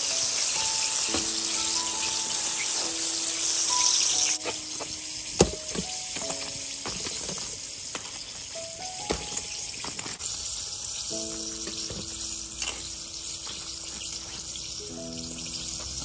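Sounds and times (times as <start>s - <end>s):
chicken deep-frying in oil: 0.0s - 16.0s
soft background music: 0.0s - 16.0s.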